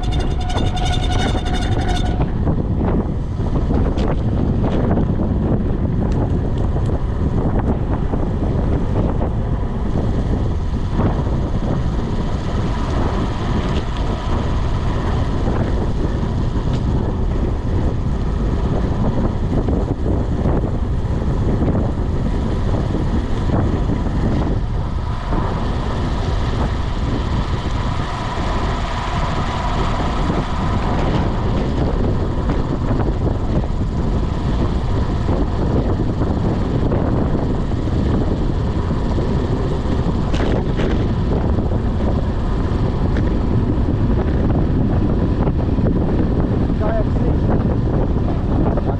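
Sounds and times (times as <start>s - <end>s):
wind rumbling on microphone: 0.0s - 48.9s.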